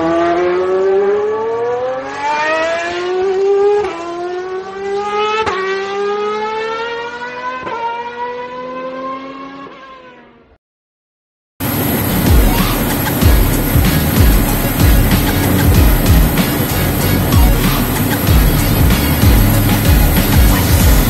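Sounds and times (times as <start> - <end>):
engine revving through gears: 0.0 - 10.6, 11.6 - 21.0.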